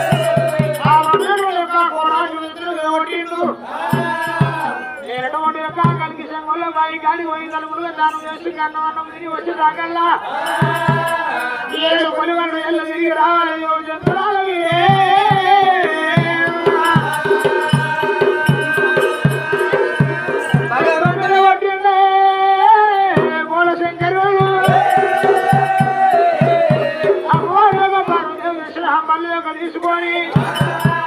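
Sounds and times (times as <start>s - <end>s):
dhol drum beats: 0.0s - 6.7s, 10.2s - 29.0s, 29.8s - 31.0s.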